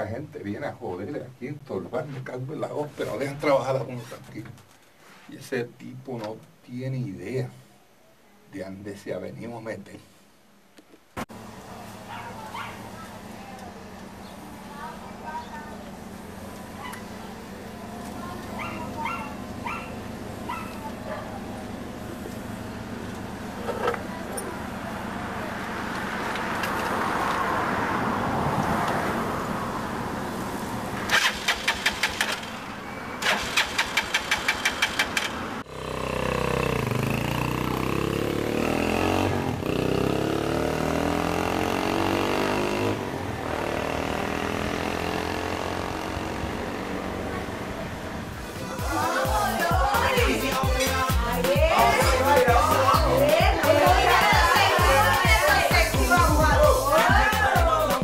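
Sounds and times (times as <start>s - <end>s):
car engines passing on street: 11.1s - 58.0s.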